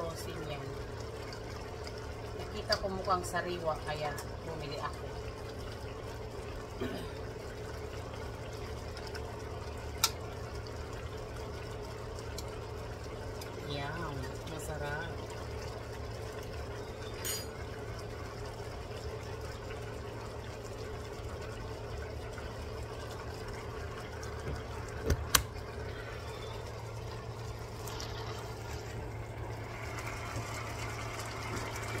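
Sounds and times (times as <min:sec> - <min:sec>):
broth simmering in a wok: 0:00.0 - 0:32.0.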